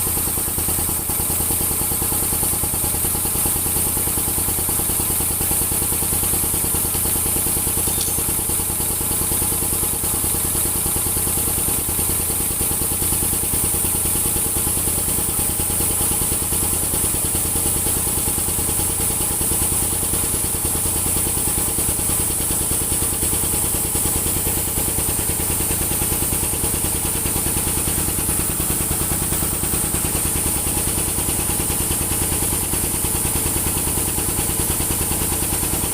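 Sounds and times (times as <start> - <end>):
air compressor running: 0.0 - 35.9.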